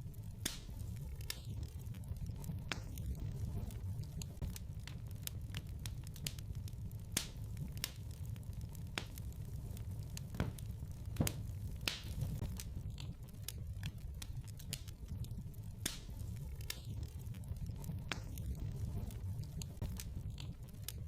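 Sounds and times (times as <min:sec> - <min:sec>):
wood fire crackling in fireplace: 0:00.0 - 0:21.0.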